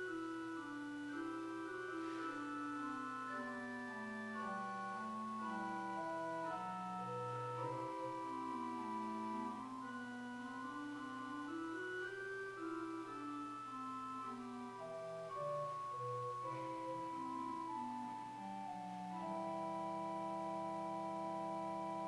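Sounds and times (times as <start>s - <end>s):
organ music: 0.0s - 22.0s.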